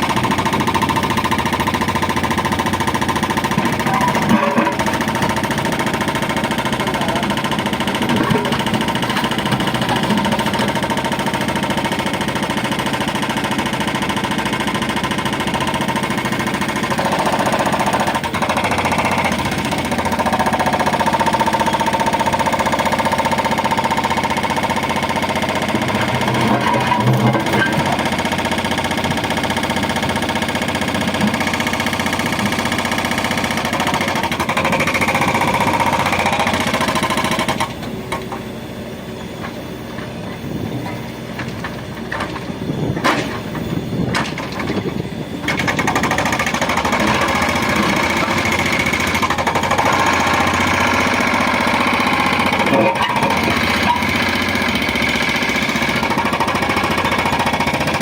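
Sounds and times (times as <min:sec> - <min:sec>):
diesel engine working hard: 0:00.0 - 0:58.0.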